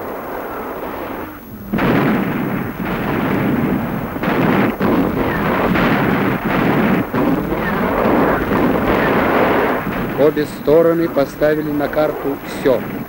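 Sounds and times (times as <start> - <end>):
artillery fire and explosions: 0.0 - 13.0.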